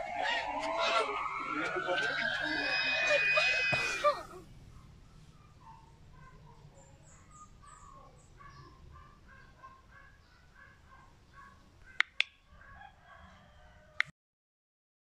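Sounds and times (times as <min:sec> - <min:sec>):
faint birds calling: 0:00.0 - 0:12.9.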